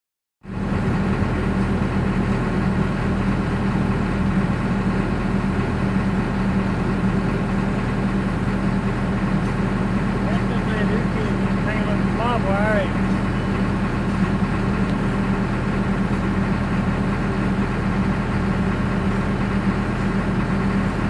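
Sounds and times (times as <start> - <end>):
heavy engine running: 0.4 - 21.0.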